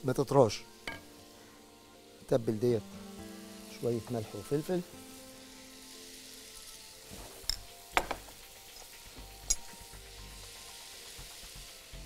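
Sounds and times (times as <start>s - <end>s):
meat and onions sizzling in a pan: 0.0s - 12.0s.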